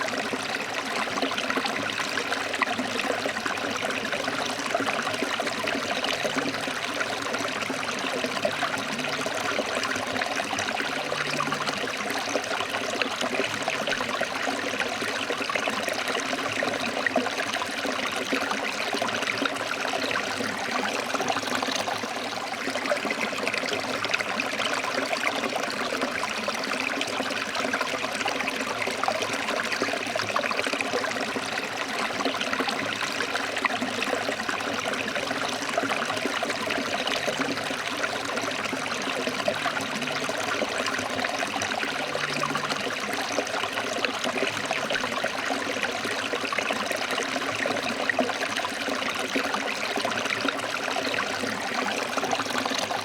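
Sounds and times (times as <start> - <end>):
stream water splashing over rocks: 0.0 - 53.0.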